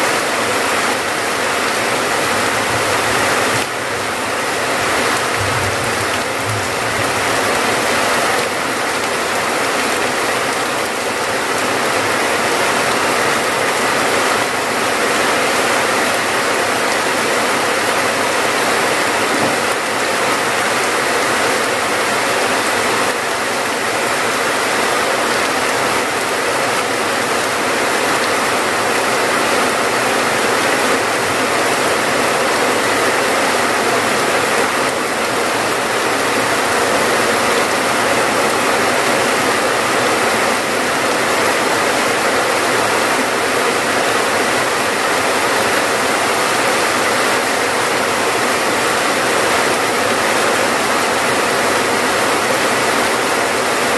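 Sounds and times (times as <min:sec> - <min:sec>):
heavy rain hiss: 0:00.0 - 0:53.9.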